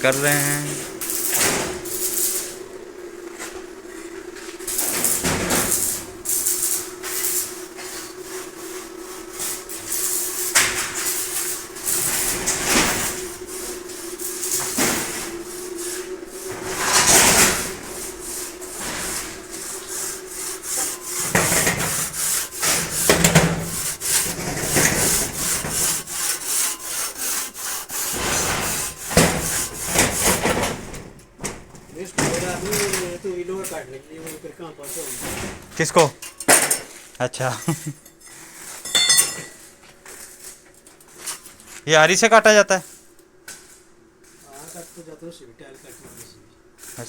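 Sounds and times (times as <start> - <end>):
arc welding crackling: 0.0 - 36.3, 39.5 - 47.0
steady low hum: 0.0 - 46.8.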